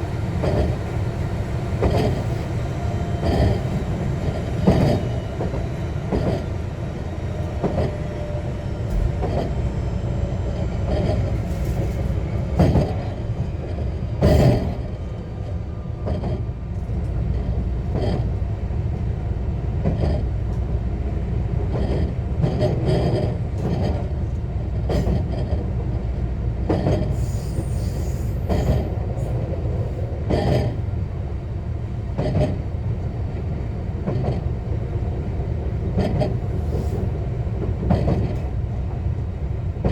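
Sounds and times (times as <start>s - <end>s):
train wheels rumbling on rail: 0.0s - 39.9s
rail-joint clicks: 0.4s - 0.8s, 1.8s - 2.5s, 3.2s - 6.6s, 7.4s - 39.9s.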